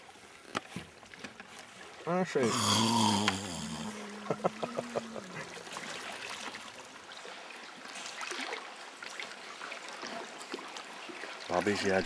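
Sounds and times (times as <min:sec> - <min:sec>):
seawater lapping around rocks: 0:00.0 - 0:02.4, 0:03.3 - 0:12.0.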